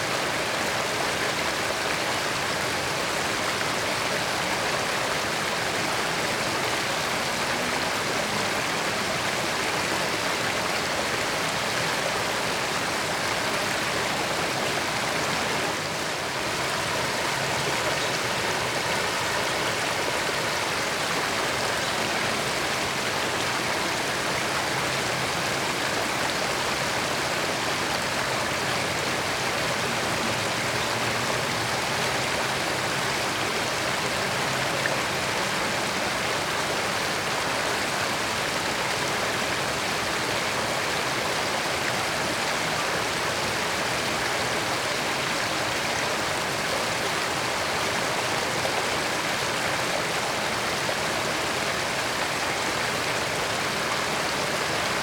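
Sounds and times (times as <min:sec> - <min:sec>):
creek water running over rocks: 0:00.0 - 0:55.0.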